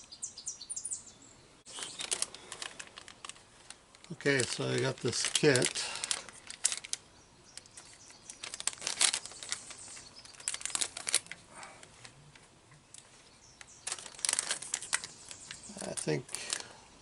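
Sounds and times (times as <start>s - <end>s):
plastic packaging crinkling: 1.7s - 12.2s, 13.0s - 16.8s.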